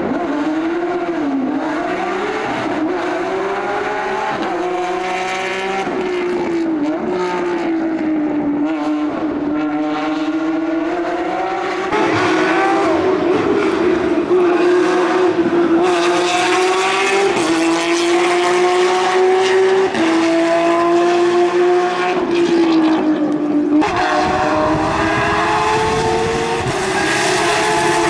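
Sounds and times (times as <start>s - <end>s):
rally car engine accelerating: 0.0s - 28.0s.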